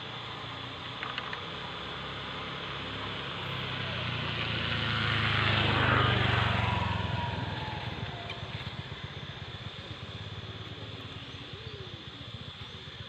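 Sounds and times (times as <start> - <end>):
engine passing by: 0.0 - 13.0.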